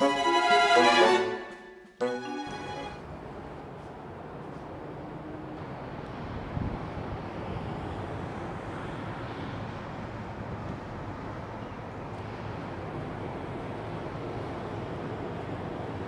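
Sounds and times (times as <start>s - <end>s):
distant city traffic: 0.0s - 16.0s
wind: 3.0s - 16.0s.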